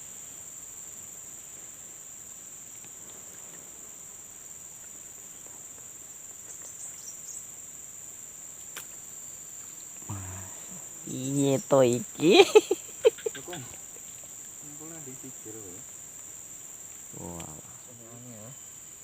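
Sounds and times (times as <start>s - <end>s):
insect chirps: 0.0s - 19.0s
insect high-pitched drone: 0.0s - 19.0s.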